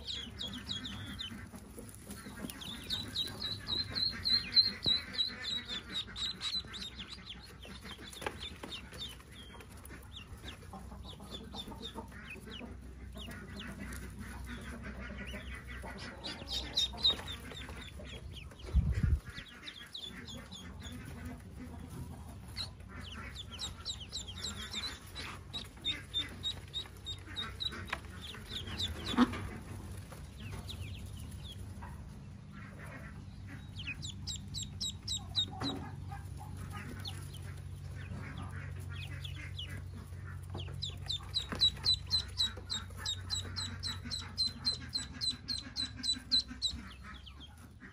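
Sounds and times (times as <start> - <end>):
ducklings peeping: 0.0 - 47.9.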